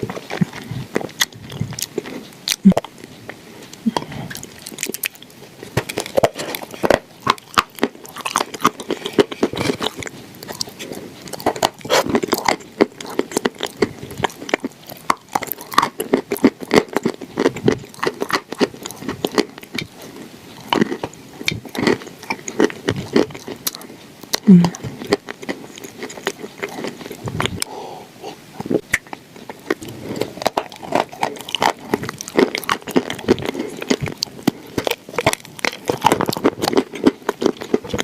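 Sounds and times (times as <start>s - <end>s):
crunching and chewing food: 0.0s - 38.0s.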